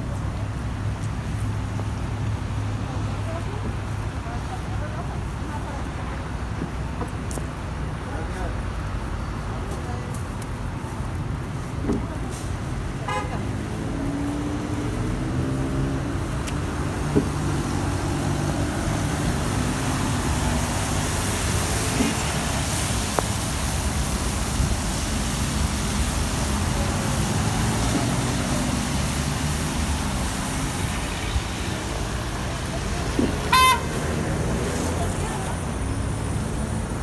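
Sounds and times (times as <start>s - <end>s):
passing cars: 0.0s - 37.0s
tyres hissing on wet road: 0.0s - 37.0s.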